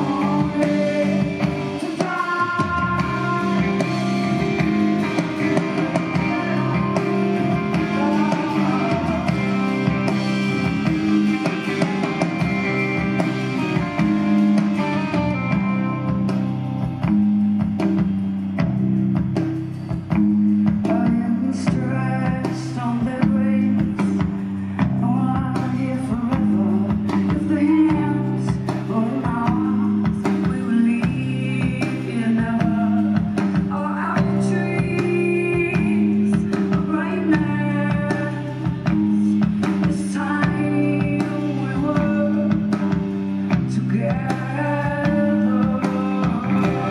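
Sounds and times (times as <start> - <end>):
woman singing: 0.0 - 16.9, 20.8 - 46.9
drums: 0.0 - 46.9
electric guitar: 0.0 - 46.9.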